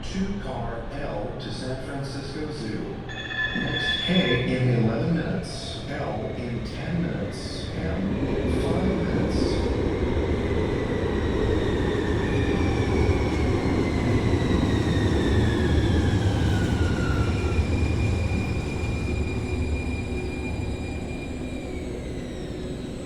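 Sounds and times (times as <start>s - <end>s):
train rumbling: 0.0s - 23.0s
electric whine of braking train: 1.5s - 23.0s.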